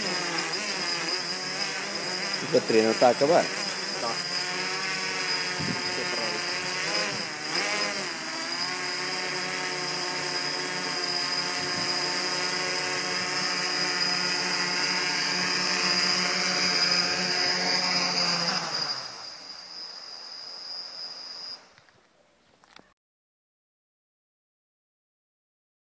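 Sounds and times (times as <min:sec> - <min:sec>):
drone motors whirring: 0:00.0 - 0:21.6.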